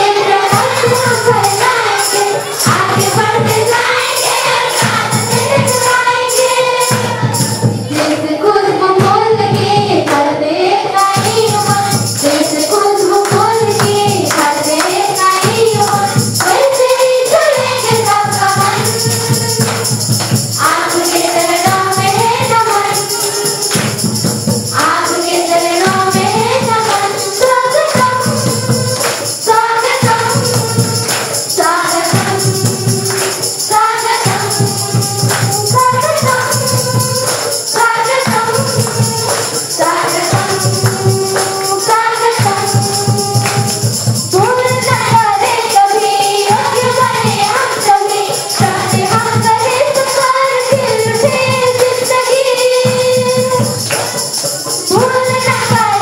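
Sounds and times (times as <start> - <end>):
steady beat: 0.0 - 10.3, 11.1 - 56.0
several voices singing: 0.0 - 56.0
tambourine jingling: 0.0 - 56.0.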